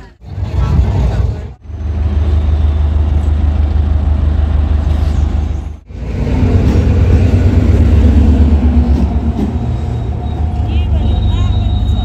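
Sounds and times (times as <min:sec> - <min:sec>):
train engine rumbling: 0:00.0 - 0:12.0.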